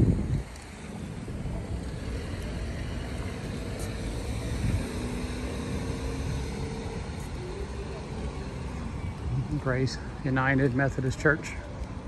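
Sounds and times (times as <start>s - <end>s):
car traffic rumble: 0.0s - 12.0s.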